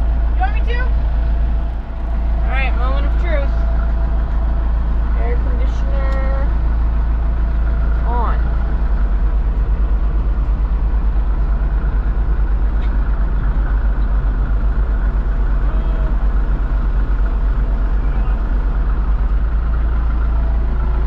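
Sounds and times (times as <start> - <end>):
engine running low throb: 0.0 - 21.0.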